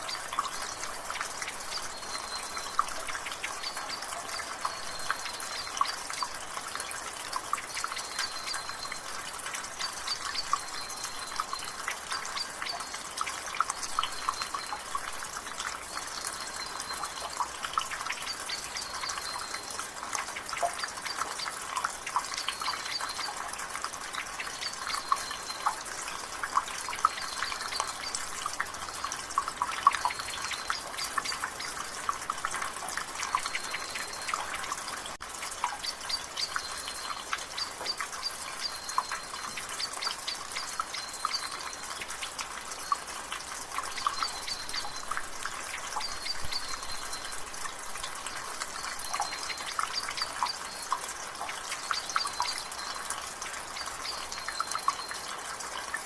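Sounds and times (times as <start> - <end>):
water dripping from gutter: 0.0 - 56.0.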